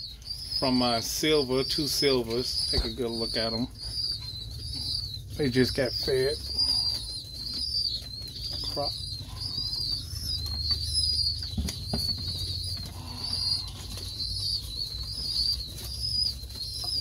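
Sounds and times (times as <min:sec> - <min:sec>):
high-pitched chirping: 0:00.0 - 0:17.0.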